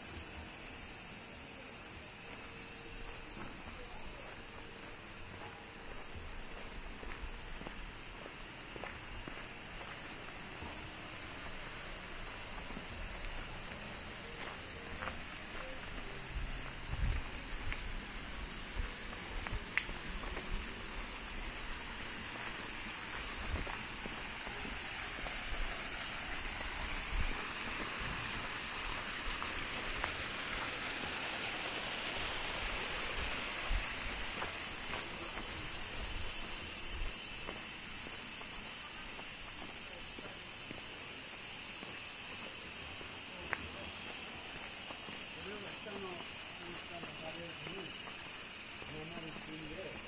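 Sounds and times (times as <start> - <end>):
cicada chorus: 0.0 - 50.0
soft footsteps on a path: 0.1 - 50.0.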